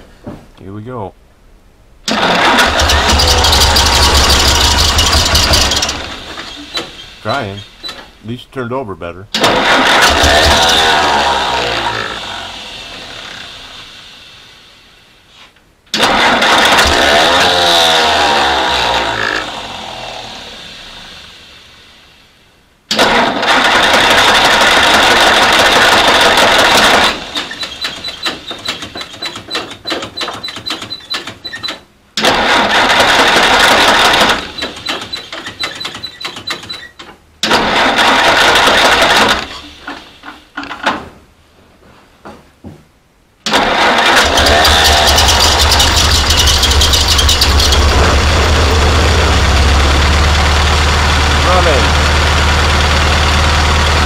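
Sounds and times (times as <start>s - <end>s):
engine cranking without starting: 2.0s - 8.2s, 9.3s - 14.0s, 15.9s - 21.5s, 22.9s - 40.9s, 43.4s - 54.0s.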